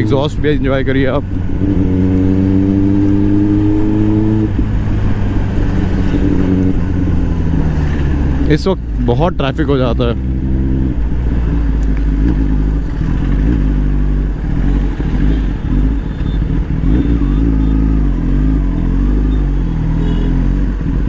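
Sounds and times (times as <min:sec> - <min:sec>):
motorcycle engine revving: 0:00.0 - 0:09.1, 0:09.8 - 0:21.0.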